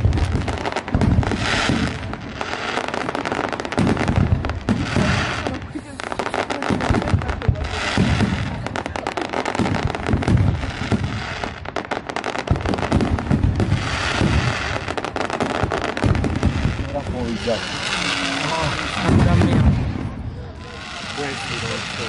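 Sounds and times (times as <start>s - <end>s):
deep firework booms: 0.0s - 22.0s
fireworks crackling and popping: 0.0s - 22.0s.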